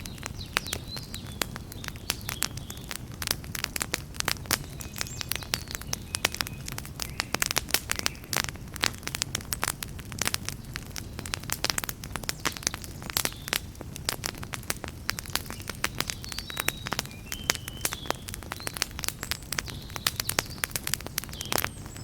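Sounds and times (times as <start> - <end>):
campfire crackling and popping: 0.0 - 22.0
low rumble of flames: 0.0 - 22.0.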